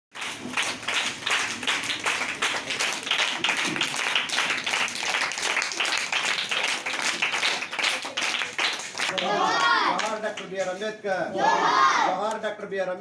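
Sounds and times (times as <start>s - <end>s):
group clapping in rhythm: 0.1s - 10.8s.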